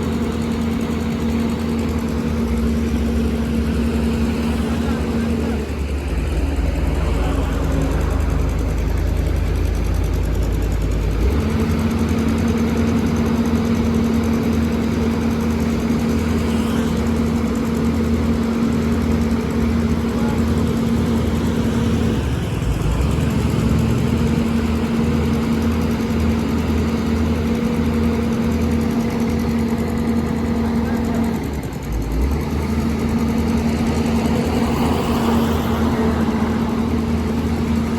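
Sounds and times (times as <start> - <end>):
excavator diesel engine idling: 0.0 - 37.9.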